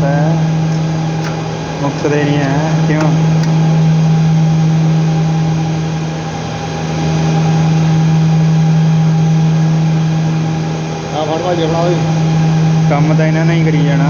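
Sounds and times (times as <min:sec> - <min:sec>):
loud steady machine hum: 0:00.4 - 0:13.3.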